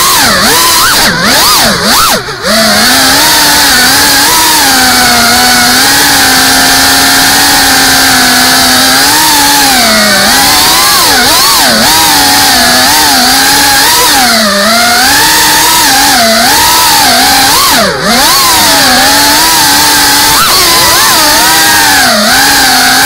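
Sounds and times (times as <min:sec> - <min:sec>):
drone motors buzzing: 0:00.0 - 0:23.0.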